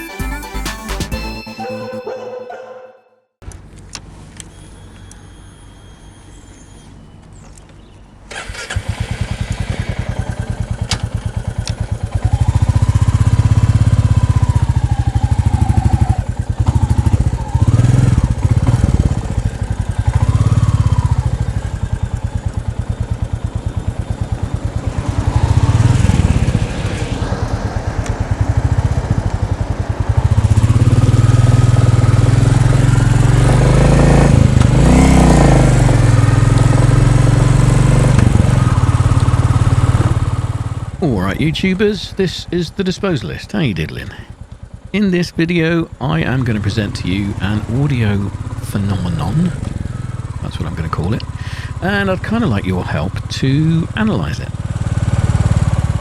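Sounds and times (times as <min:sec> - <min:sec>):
motorcycle engine revving: 0:08.3 - 0:43.2, 0:43.9 - 0:45.0, 0:45.6 - 0:56.0.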